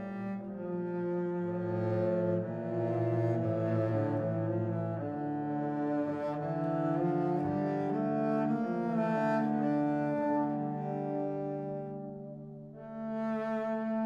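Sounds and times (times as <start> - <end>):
instrumental music with long notes: 0.0 - 14.0.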